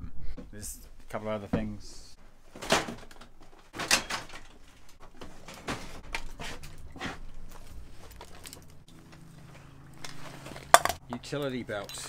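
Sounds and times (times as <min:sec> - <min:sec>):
fabric handling rustles and knocks: 0:00.4 - 0:11.0.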